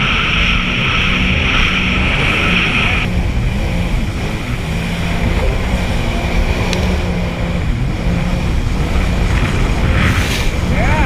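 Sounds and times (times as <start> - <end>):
jet ski engine running: 0.0 - 11.0
wind rushing: 0.0 - 11.0.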